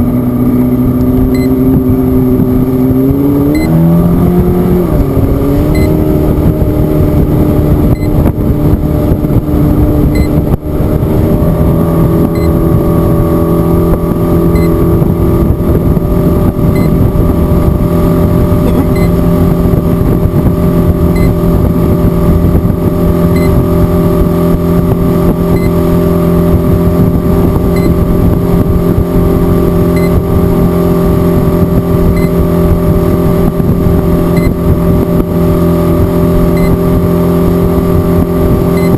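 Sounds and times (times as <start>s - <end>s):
motorboat engine running: 0.0s - 38.9s.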